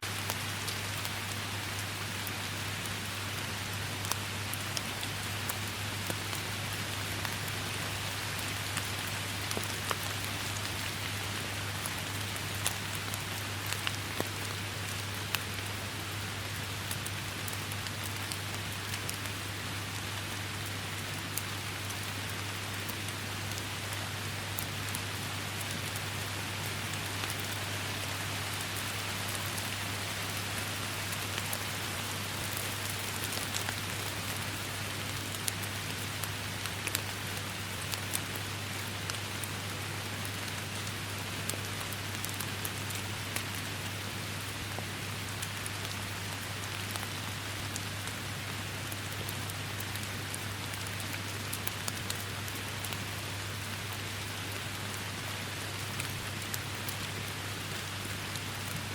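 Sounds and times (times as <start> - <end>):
raindrops ticking close by: 0.0 - 58.9
steady rain hiss: 0.0 - 58.9.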